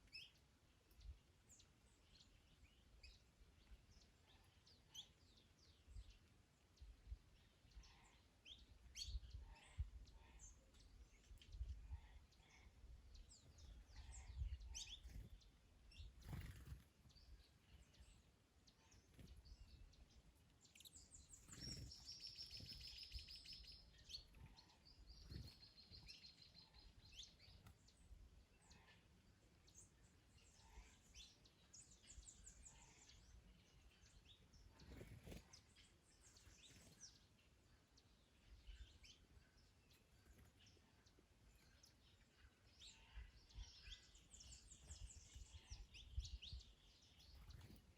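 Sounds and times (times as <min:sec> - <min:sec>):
small birds chirping and singing: 0:00.0 - 0:47.9.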